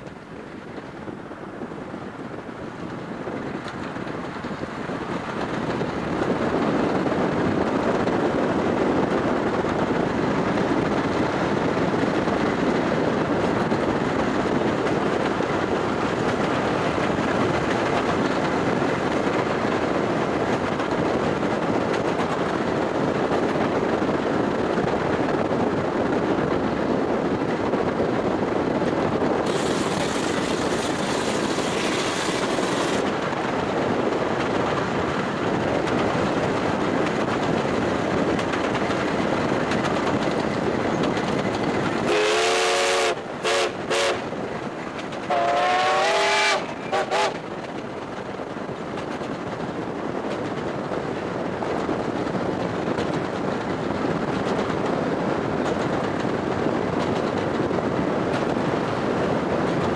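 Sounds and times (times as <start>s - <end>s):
road and wind noise: 0.0s - 59.9s
steam locomotive running: 0.0s - 59.9s.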